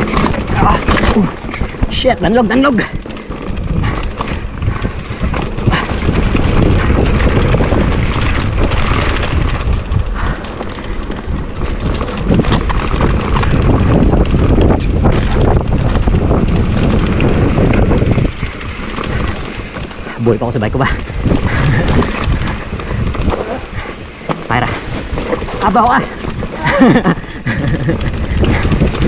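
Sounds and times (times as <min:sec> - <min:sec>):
bike knocking over bumps: 0:00.0 - 0:29.0
tyres rolling over dirt: 0:00.0 - 0:29.0
wind rumbling on microphone: 0:00.0 - 0:29.0.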